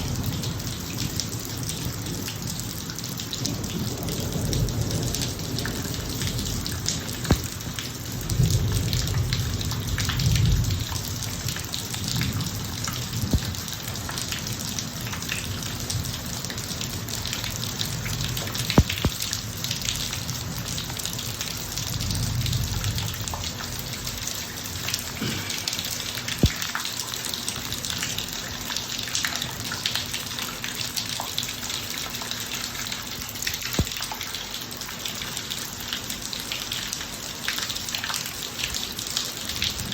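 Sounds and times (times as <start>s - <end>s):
heavy rain on a driveway: 0.0s - 39.9s.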